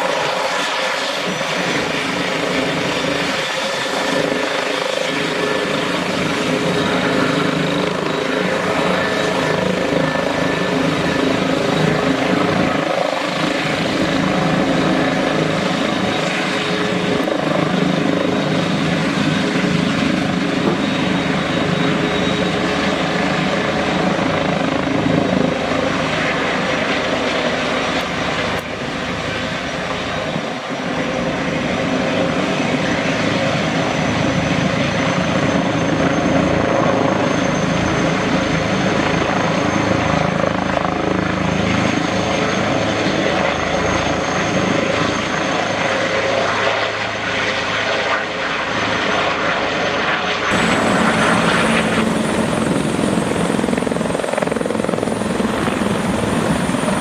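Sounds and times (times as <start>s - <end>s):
helicopter engine whine: 0.0s - 57.0s
helicopter rotor noise: 0.0s - 57.0s.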